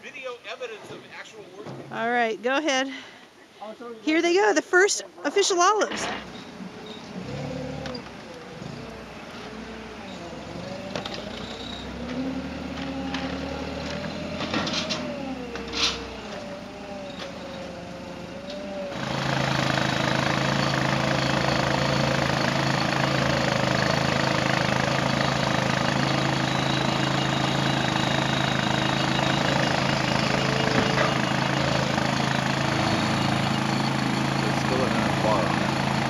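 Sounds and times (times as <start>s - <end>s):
forklift engine running: 5.8s - 36.0s.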